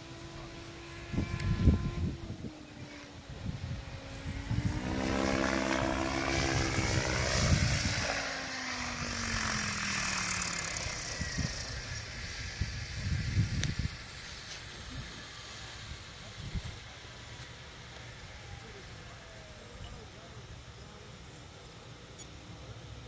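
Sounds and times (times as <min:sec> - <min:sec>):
model helicopter whine: 0:00.0 - 0:23.0.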